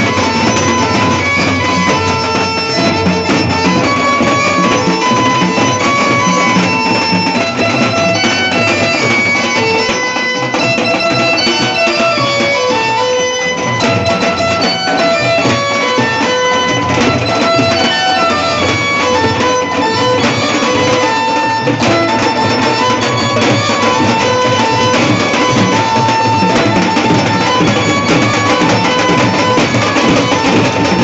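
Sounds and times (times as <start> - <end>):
procession drums beating: 0.0 - 31.0.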